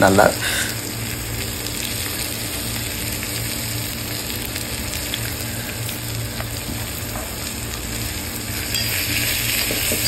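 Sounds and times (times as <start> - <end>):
low even hum: 0.0 - 10.0
onions and tomatoes sizzling: 0.0 - 10.0.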